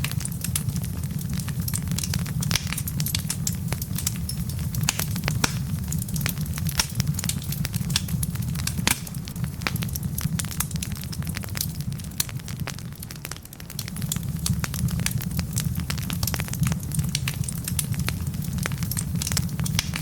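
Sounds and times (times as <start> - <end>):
logs crackling and popping: 0.0 - 20.0
low rumble of flame: 0.0 - 20.0.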